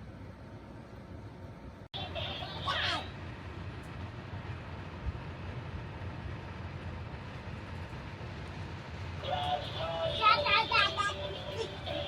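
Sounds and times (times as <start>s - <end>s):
heater fan rumbling: 0.0s - 12.0s.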